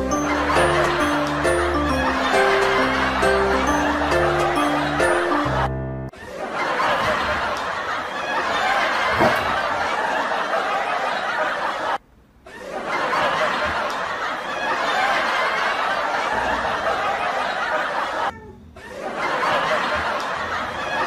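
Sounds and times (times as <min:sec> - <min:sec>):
people laughing: 0:00.0 - 0:21.0.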